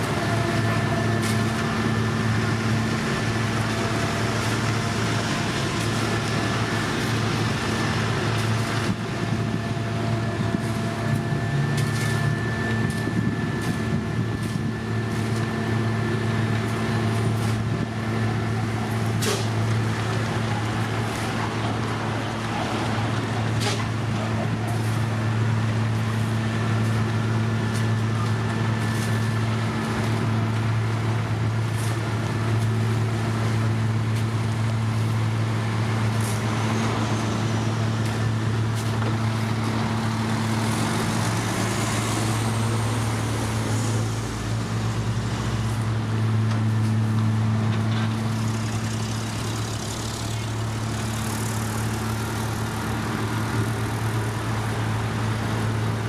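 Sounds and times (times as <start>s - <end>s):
diesel machinery engine humming: 0.0s - 56.0s.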